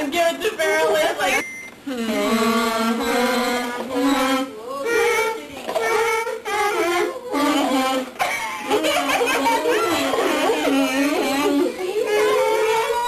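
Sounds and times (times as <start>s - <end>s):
girls singing into paper cups: 1.8s - 13.0s.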